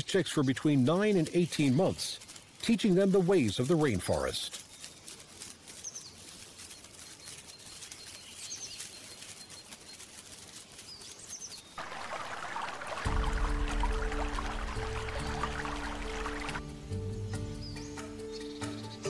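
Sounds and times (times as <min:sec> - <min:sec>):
stream trickling over pebbles: 0:00.0 - 0:16.6.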